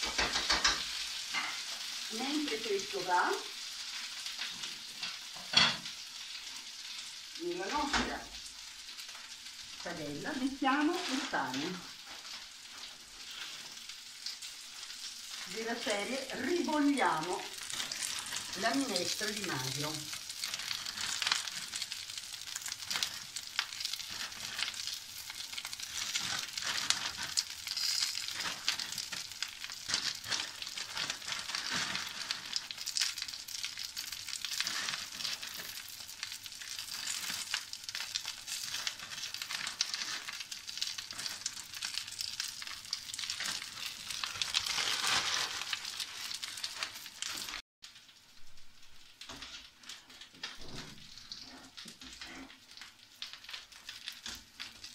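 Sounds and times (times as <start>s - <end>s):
greens sizzling in a frying pan: 0.0s - 54.9s.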